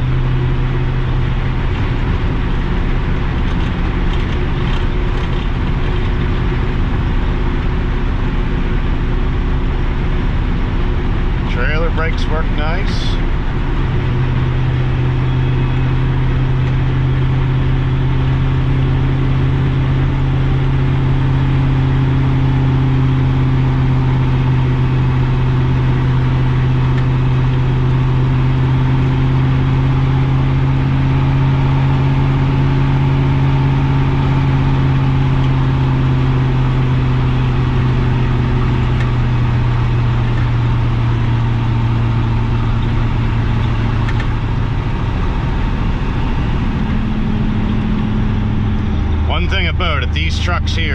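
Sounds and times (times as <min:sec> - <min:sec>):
pickup truck engine under load: 0:00.0 - 0:50.9.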